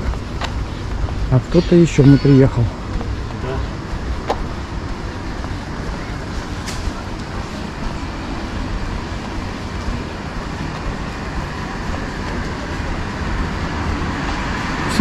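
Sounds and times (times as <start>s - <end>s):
street noise rumble: 0.0s - 15.0s.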